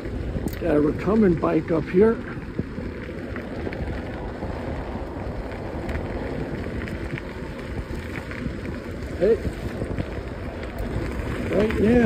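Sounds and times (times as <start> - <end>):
bike tyres on gravel: 0.0 - 12.0
wind rumble on microphone: 0.0 - 12.0.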